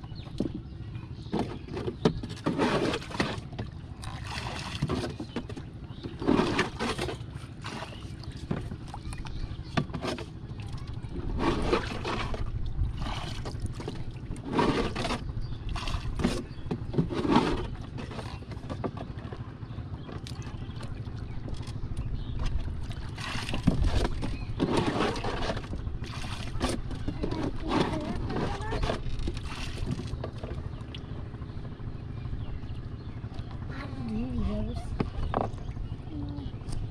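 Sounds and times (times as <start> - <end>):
low rumble: 2.2 - 36.9.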